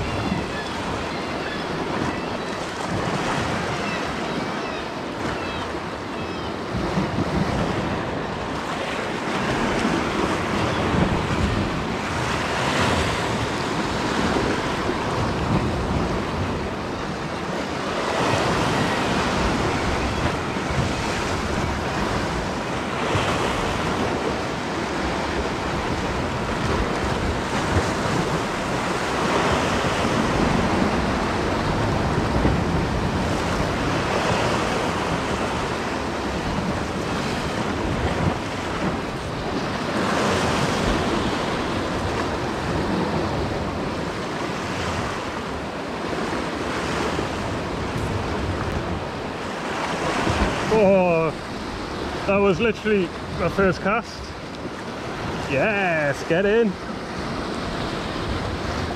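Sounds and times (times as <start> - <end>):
waves breaking against rocks: 0.0 - 58.9.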